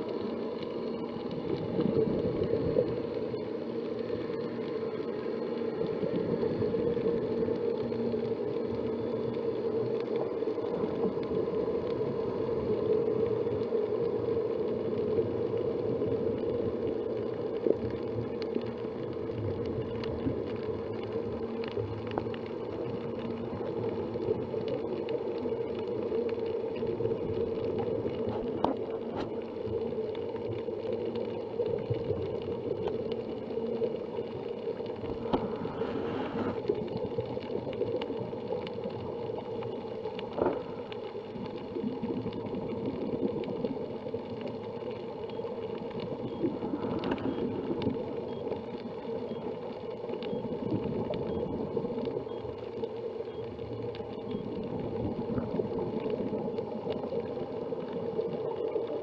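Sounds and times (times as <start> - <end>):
muffled underwater hum: 0.0 - 59.0.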